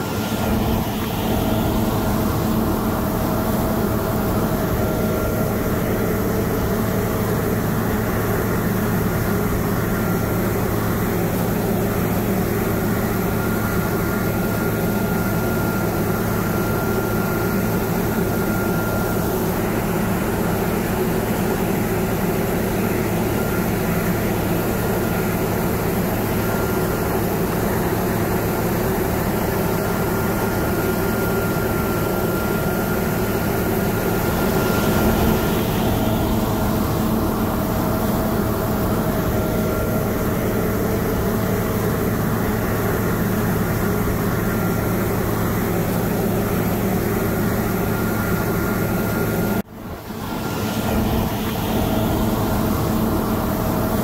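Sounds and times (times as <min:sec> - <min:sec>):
combine harvester engine drone: 0:00.0 - 0:54.0
faint high whine: 0:00.0 - 0:54.0.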